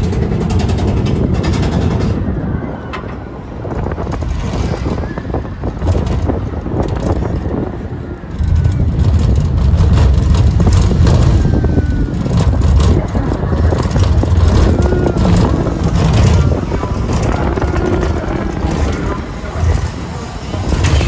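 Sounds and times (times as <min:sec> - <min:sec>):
ride car rumbling along track: 0:00.0 - 0:21.0.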